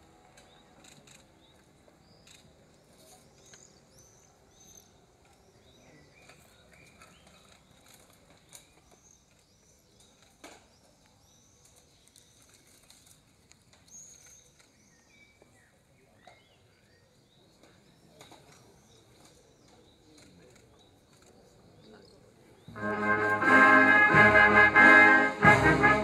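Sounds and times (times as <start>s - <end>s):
small birds chirping: 0.3s - 22.8s.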